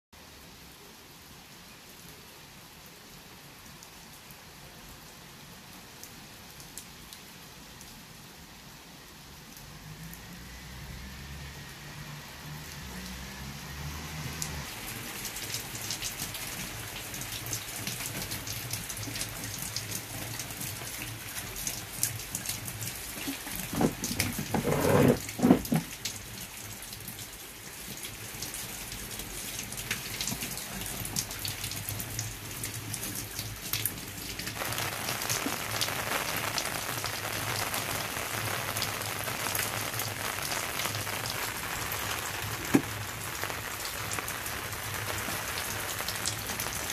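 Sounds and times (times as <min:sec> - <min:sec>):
rain falling on wet ground: 0:00.2 - 0:46.9.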